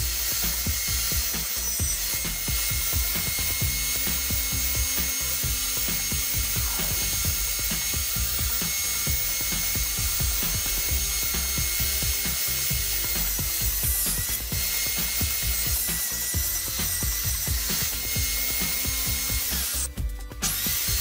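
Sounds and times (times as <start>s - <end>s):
background music: 0.0s - 21.0s
circular saw whining: 0.0s - 21.0s.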